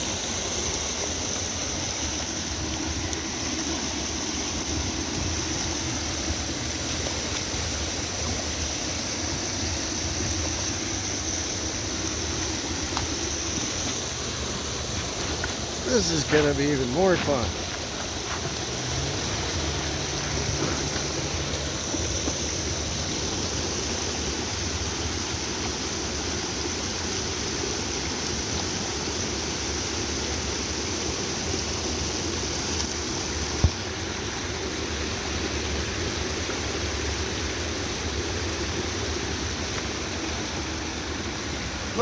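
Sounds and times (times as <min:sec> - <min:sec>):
small waterfall pouring: 0:00.0 - 0:42.0.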